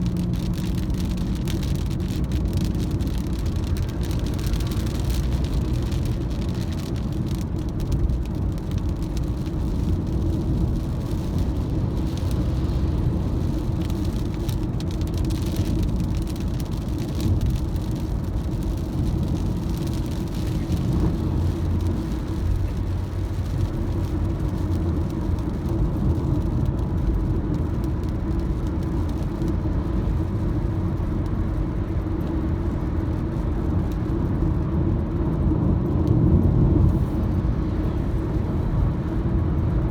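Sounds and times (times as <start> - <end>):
car road and engine rumble: 0.0 - 39.9
hiss of rain: 0.0 - 39.9.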